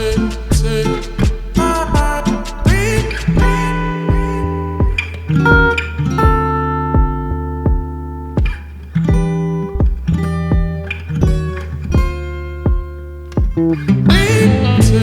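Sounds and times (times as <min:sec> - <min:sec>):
plucked acoustic guitar: 0:00.0 - 0:15.0
sustained bass line: 0:00.0 - 0:15.0.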